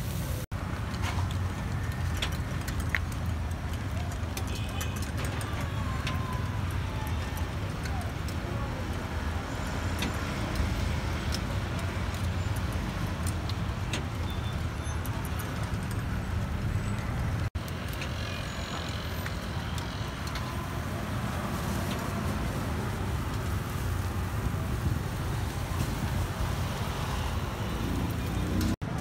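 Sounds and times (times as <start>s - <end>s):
busy street traffic rumble: 0.0s - 29.0s
motorbikes and cars passing: 0.3s - 29.0s.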